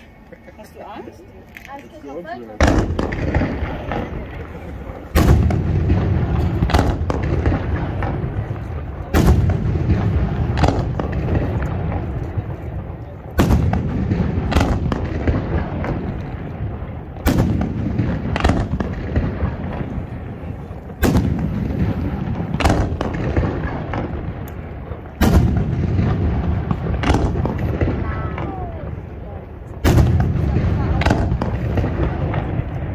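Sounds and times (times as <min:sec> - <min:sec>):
firework crackling: 0:01.3 - 0:32.9
firework shells booming: 0:02.6 - 0:32.9.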